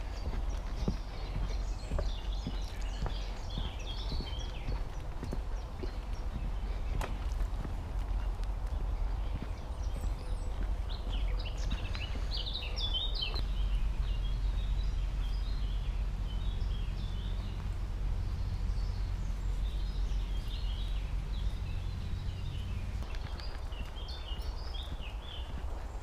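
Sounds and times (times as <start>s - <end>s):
low rumble: 0.0s - 26.0s
songbirds chirping: 0.0s - 26.0s.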